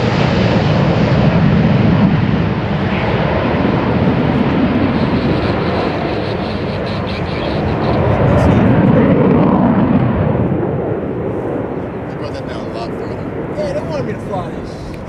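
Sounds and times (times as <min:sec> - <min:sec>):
jet engines passing overhead: 0:00.0 - 0:15.0.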